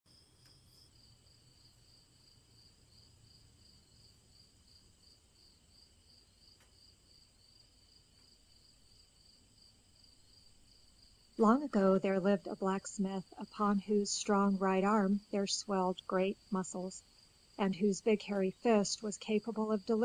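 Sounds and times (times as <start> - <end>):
crickets chirping: 0.1 - 20.0.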